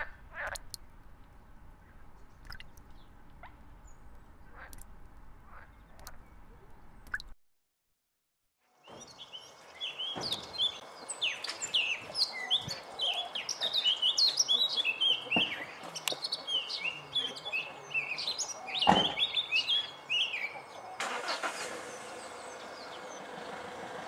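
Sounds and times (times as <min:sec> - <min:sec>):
bird warbling song: 0:01.8 - 0:07.3, 0:08.8 - 0:23.8.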